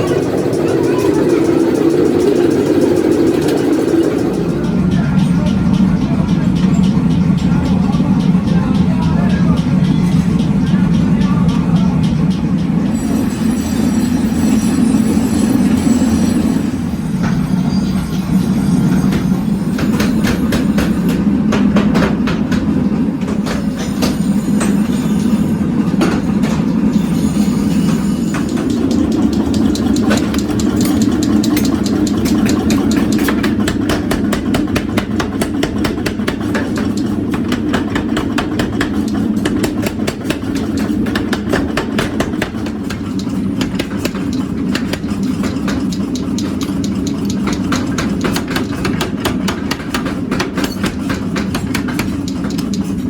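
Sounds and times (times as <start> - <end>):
sharp metallic clicks: 0.0 - 13.0, 19.1 - 53.0
factory machinery drone: 0.0 - 53.0.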